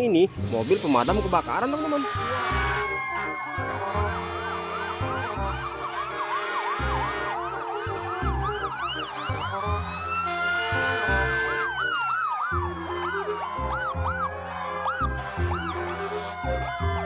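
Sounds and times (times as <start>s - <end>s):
background music: 0.0s - 17.0s
siren wail: 1.5s - 17.0s
siren yelp: 1.7s - 17.0s.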